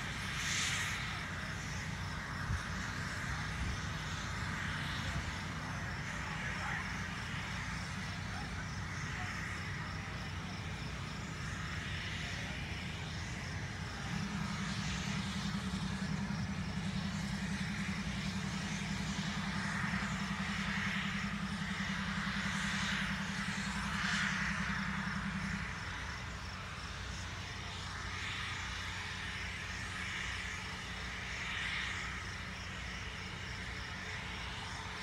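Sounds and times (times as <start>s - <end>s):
diesel locomotive engine running: 0.0s - 35.0s.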